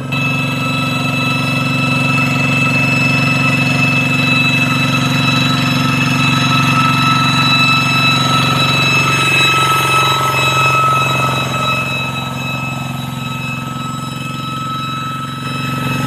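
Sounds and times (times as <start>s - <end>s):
diesel engine chugging: 0.0s - 16.0s
high-pitched ringing whine: 0.0s - 16.0s.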